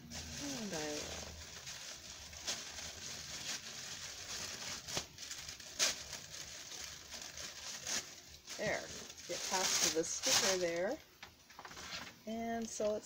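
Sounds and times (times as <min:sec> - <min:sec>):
paper packaging rustling: 0:00.0 - 0:13.0.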